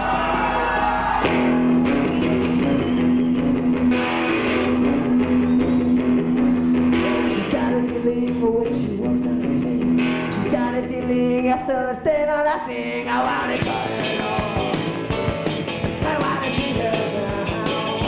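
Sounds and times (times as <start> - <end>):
electric guitars: 0.0 - 18.0
rock band playing live: 0.8 - 11.4, 13.0 - 18.0.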